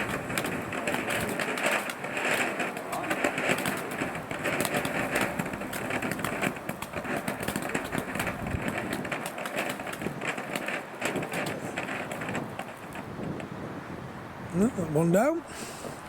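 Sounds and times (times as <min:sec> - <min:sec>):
firework fountain hissing and crackling: 0:00.0 - 0:16.0.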